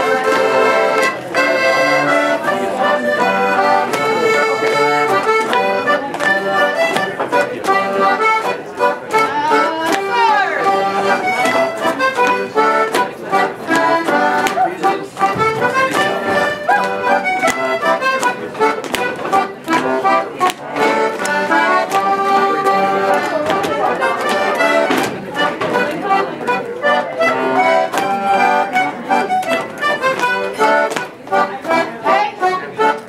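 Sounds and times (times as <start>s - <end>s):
accordion dance tune: 0.0s - 33.0s
dancers stepping on wooden floor: 0.3s - 33.0s.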